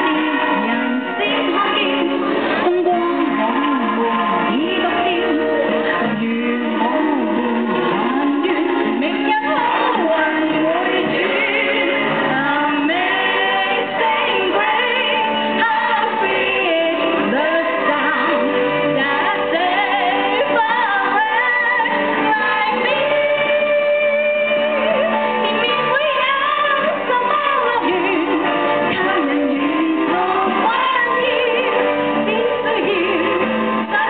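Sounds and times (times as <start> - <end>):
woman singing: 0.0 - 34.0.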